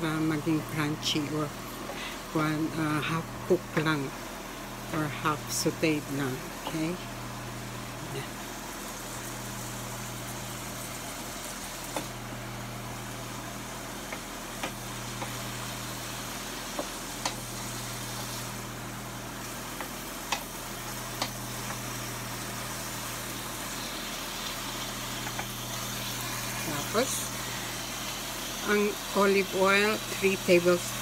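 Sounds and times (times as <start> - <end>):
beans sizzling in a skillet: 0.0 - 31.0.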